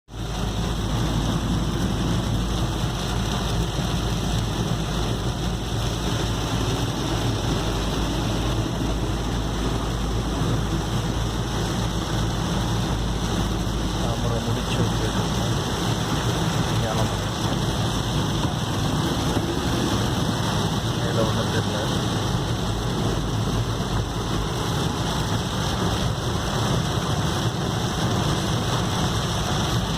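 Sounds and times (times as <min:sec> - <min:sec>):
heavy rain: 0:00.1 - 0:29.9
vehicle rumbling: 0:00.1 - 0:29.9.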